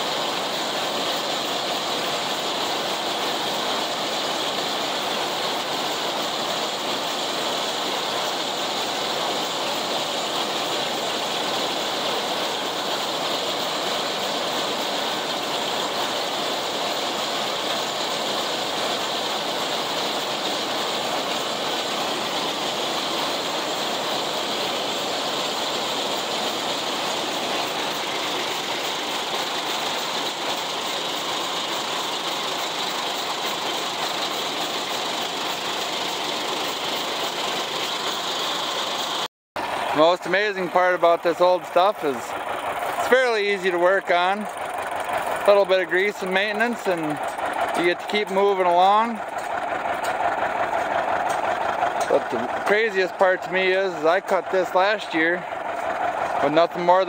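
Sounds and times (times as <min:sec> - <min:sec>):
mower cutter clatter: 0:00.0 - 0:57.0
tractor engine: 0:00.0 - 0:57.0.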